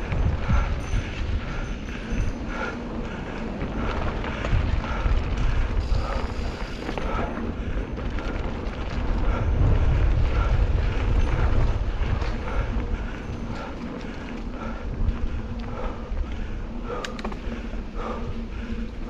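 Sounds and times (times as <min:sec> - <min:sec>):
bike tyres rumbling over dirt: 0:00.0 - 0:19.0
wind buffeting microphone: 0:00.0 - 0:19.0.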